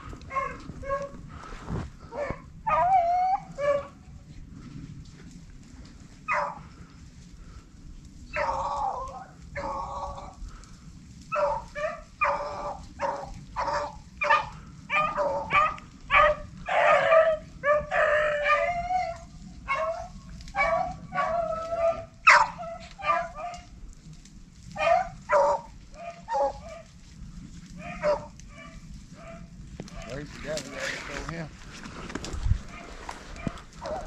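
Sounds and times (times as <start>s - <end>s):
hounds baying and barking: 0.0s - 7.0s, 8.2s - 34.0s.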